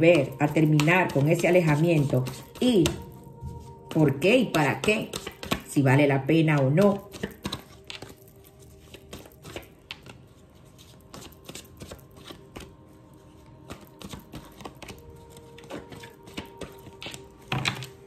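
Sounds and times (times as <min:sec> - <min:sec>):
cards being shuffled: 0:00.1 - 0:05.7, 0:06.6 - 0:18.0.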